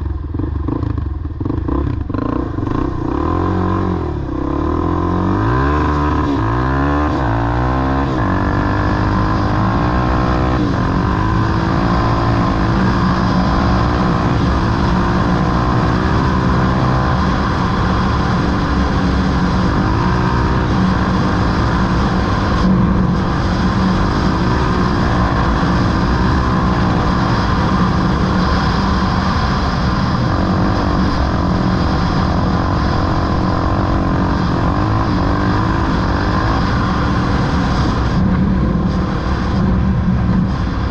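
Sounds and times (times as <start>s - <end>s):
off-road vehicle engine revving: 1.6s - 39.5s.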